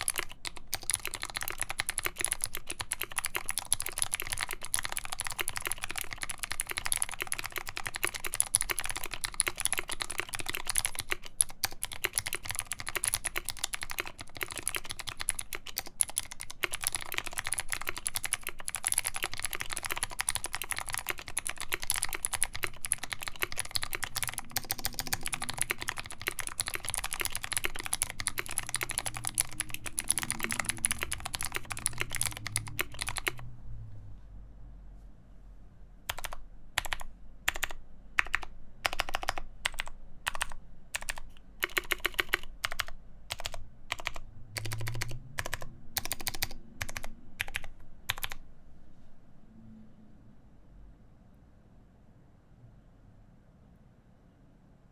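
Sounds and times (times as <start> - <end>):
fast typing on mechanical keyboard: 0.0 - 33.5, 36.1 - 48.4.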